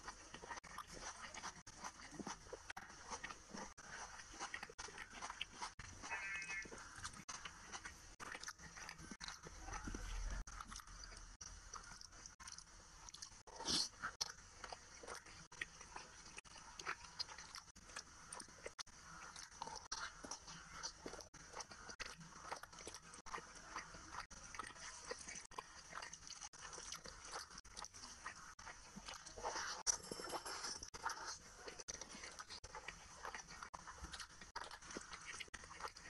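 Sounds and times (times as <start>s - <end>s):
fingers squelching wet rice: 0.0s - 36.0s
person chewing and smacking: 0.0s - 36.0s.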